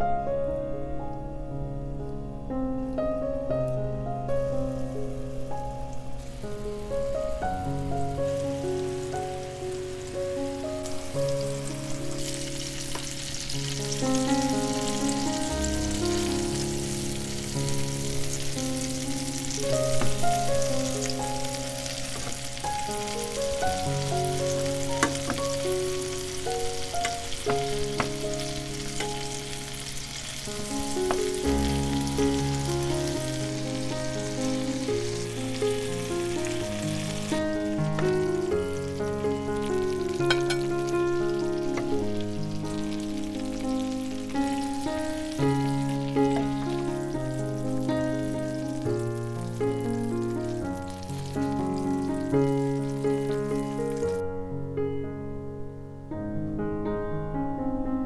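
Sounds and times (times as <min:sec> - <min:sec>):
background music: 0:00.0 - 0:56.8
meatballs sizzling in oil: 0:04.8 - 0:54.2.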